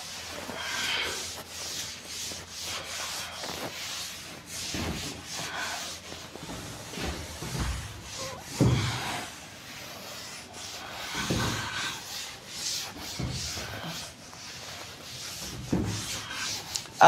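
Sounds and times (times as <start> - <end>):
cloth rubbing on chalkboard: 0.0 - 17.0.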